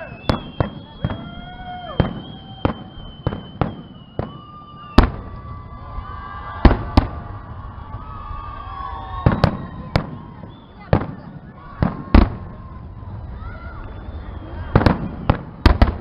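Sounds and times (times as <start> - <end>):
firework bangs: 0.0 - 16.0
firework whistling: 0.0 - 16.0.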